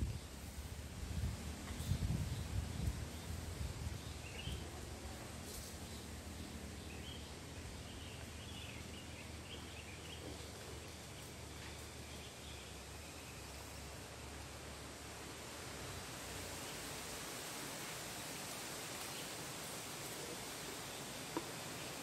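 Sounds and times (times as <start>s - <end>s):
wind rumble and rustle: 0.0s - 22.0s.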